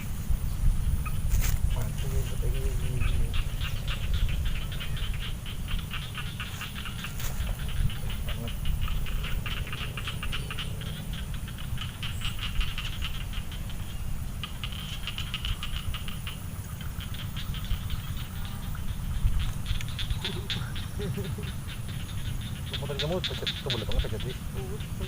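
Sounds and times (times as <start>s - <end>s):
frogs calling in clicking trains: 0.0s - 25.0s.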